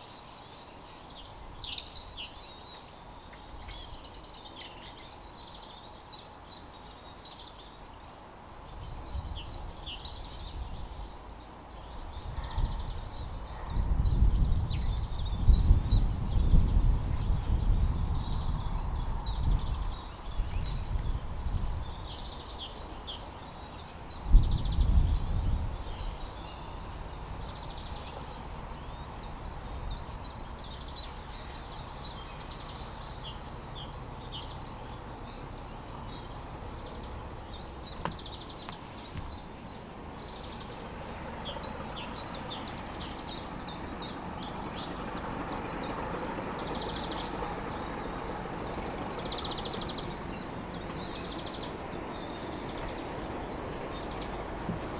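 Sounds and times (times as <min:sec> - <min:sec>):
birds chirping and singing: 0:00.0 - 0:54.9.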